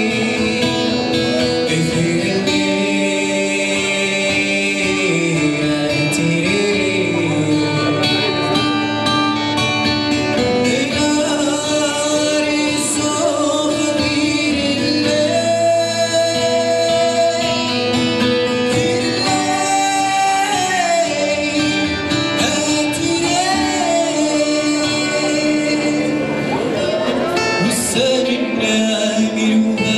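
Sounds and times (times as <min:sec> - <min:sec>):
acoustic guitar: 0:00.0 - 0:29.9
man singing: 0:00.0 - 0:29.9.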